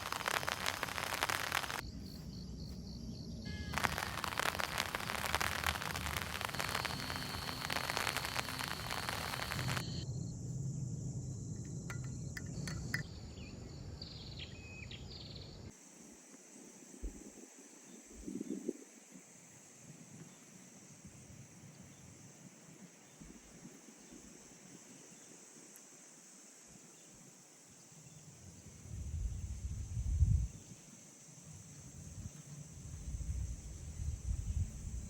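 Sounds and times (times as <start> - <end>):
rain-like hiss: 0.0 - 2.2, 3.5 - 10.0, 15.7 - 35.0
high insect drone: 0.0 - 35.0.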